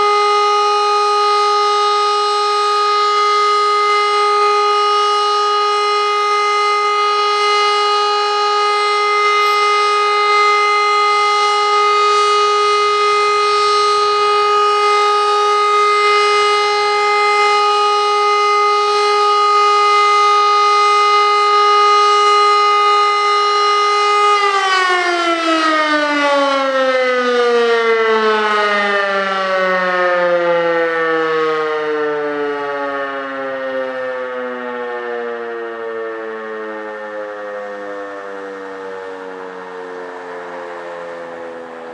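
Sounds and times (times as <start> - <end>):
air-raid siren steady tone: 0.0 - 41.9.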